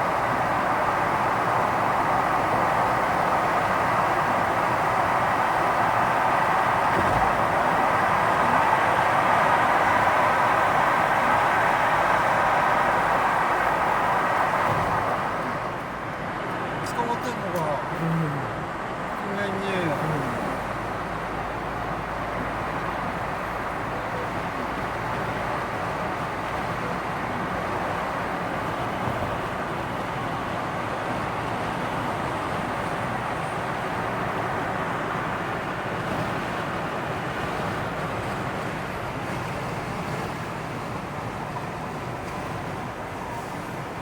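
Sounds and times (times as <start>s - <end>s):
road vehicle rumble: 0.0s - 44.0s.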